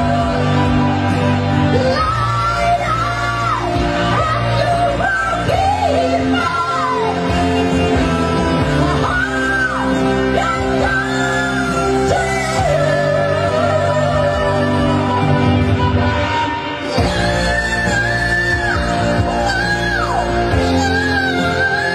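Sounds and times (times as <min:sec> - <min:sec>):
live band playing: 0:00.0 - 0:21.9.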